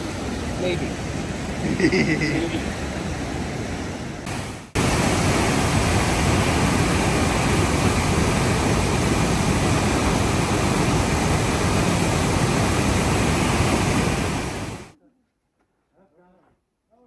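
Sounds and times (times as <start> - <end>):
fast-flowing river water: 0.0 - 14.9.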